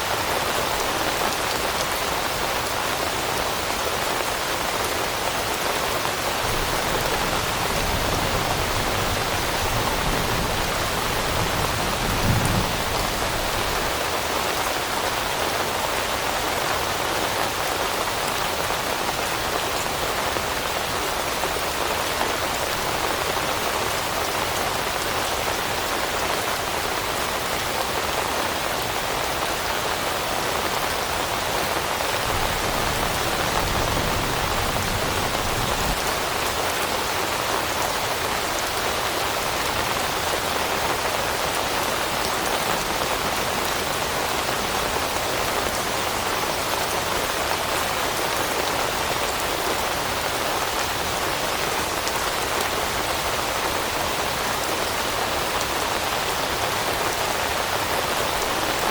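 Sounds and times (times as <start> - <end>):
rain pattering on leaves: 0.0 - 58.9.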